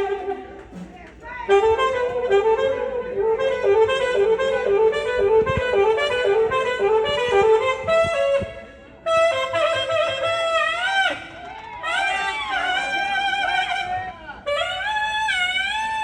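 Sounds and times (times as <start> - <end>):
saxophone playing: 0.0 - 16.0.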